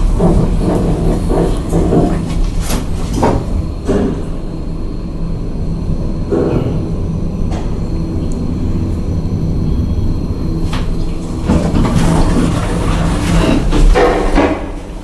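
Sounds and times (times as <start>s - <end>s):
elevator humming: 0.0s - 15.0s
elevator rushing noise: 0.0s - 15.0s.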